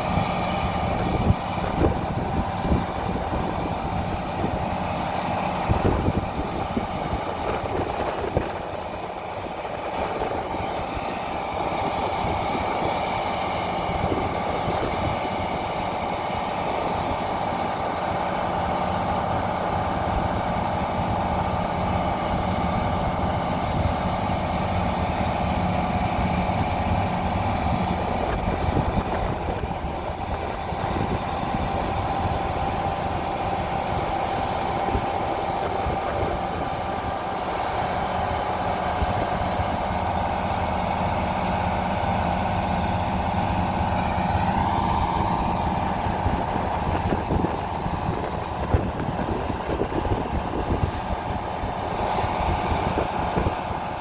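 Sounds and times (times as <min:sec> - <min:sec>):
diesel engine running: 0:00.0 - 0:54.0
machinery whine: 0:00.0 - 0:54.0.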